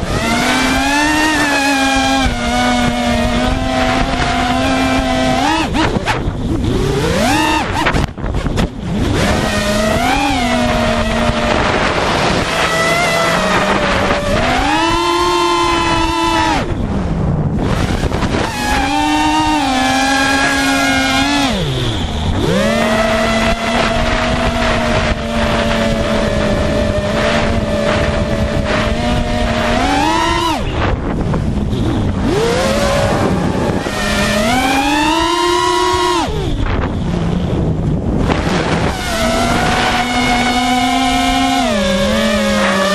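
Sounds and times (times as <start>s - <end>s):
drone motors whining: 0.0s - 42.9s
wind buffeting microphone: 0.0s - 42.9s.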